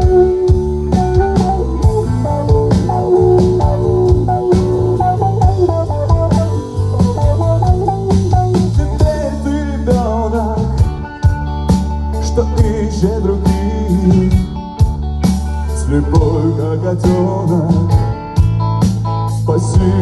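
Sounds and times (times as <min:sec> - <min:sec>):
drum kit: 0:00.0 - 0:20.0
electric bass: 0:00.0 - 0:20.0
electric guitars: 0:00.0 - 0:20.0.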